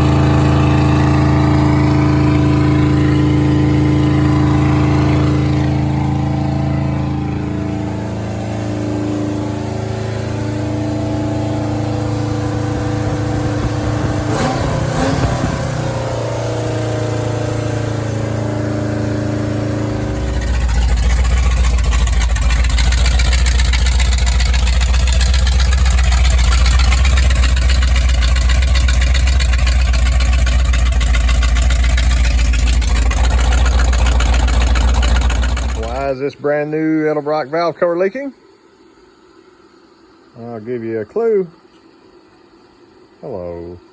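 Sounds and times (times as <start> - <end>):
car engine running: 0.0 - 36.2.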